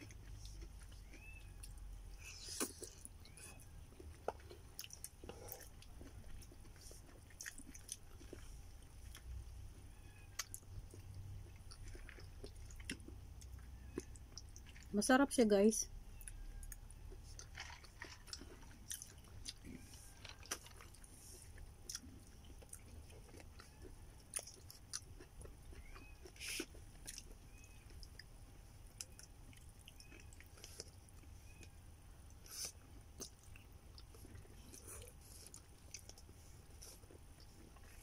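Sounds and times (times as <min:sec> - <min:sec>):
person chewing: 0:00.0 - 0:14.9, 0:16.1 - 0:38.0.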